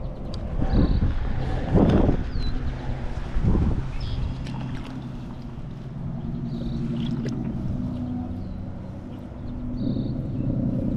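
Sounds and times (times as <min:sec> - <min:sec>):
low motor hum: 0:00.0 - 0:10.9.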